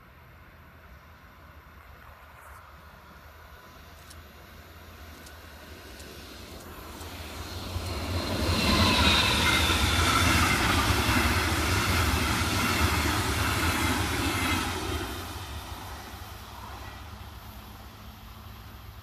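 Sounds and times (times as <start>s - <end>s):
train passing with whine: 0.0s - 19.0s.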